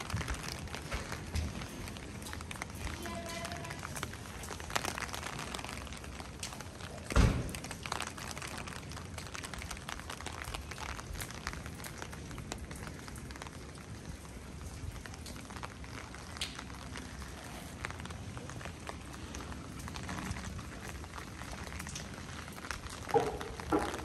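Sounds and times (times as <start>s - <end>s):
rain on wet stone paving: 0.0s - 24.0s.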